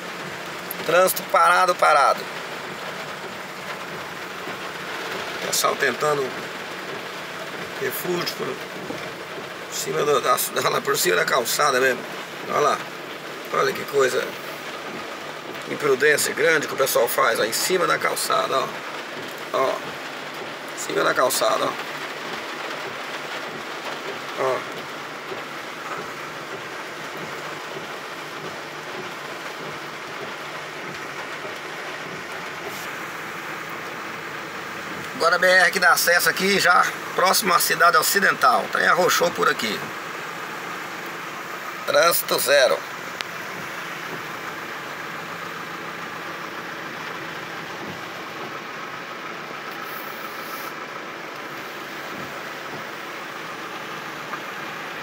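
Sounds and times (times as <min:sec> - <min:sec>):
heavy rain on vehicle roof: 0:00.0 - 0:55.0
truck engine running low: 0:00.0 - 0:55.0
windshield wiper swish: 0:00.0 - 0:55.0.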